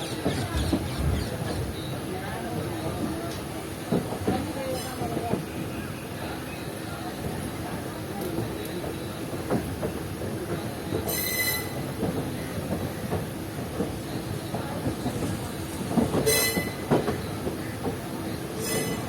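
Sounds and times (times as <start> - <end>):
train coaches rumbling: 0.0 - 19.0.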